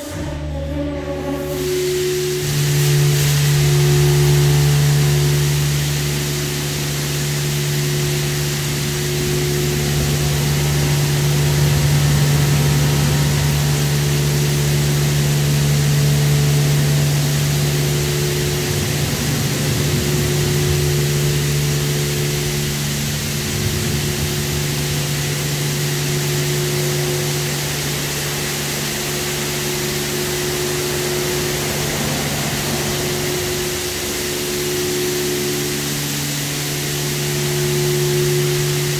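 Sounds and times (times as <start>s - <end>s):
car wash machine hum: 0.0s - 38.9s
water spray hissing: 1.3s - 38.9s.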